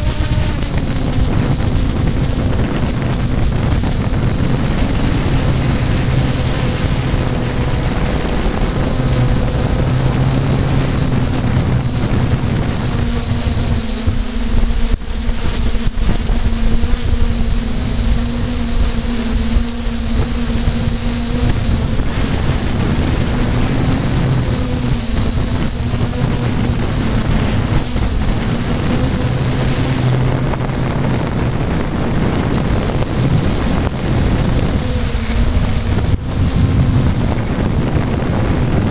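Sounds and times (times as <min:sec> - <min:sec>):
drone propellers humming: 0:00.0 - 0:38.9.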